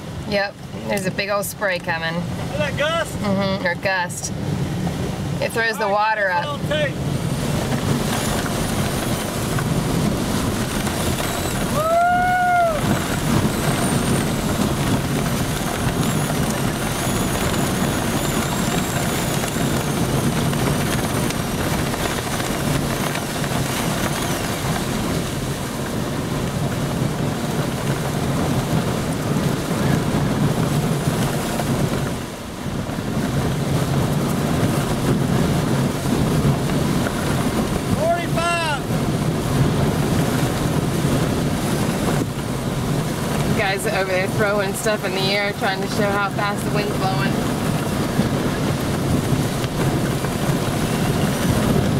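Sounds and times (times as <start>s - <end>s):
driving rain: 0.0s - 51.9s
hurricane wind gusting: 0.0s - 51.9s.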